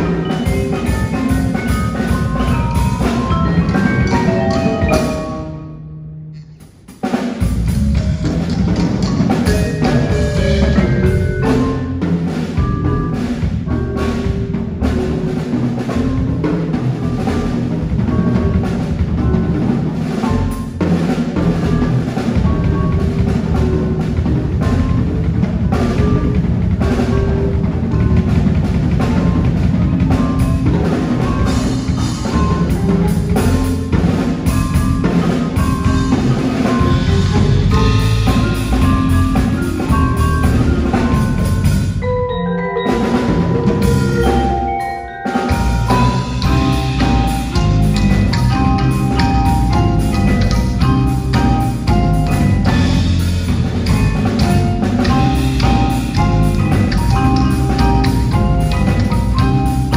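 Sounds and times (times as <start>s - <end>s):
drum kit and low drums: 0.0s - 59.9s
marimbas and mallet keyboards: 0.0s - 59.9s.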